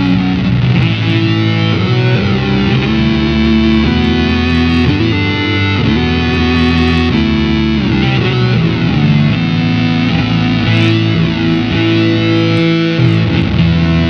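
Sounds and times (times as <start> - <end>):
fuzzy synth-like electric guitar: 0.0 - 14.0.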